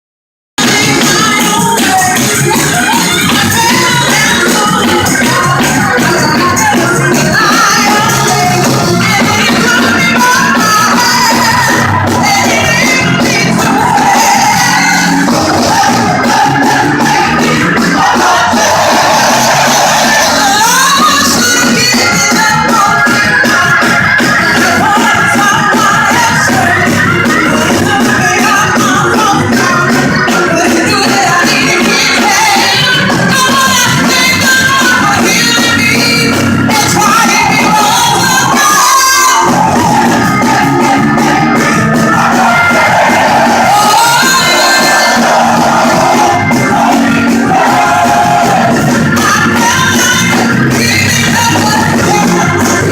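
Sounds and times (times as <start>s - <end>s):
live gospel band playing: 0.6s - 52.9s
singing: 0.6s - 52.9s.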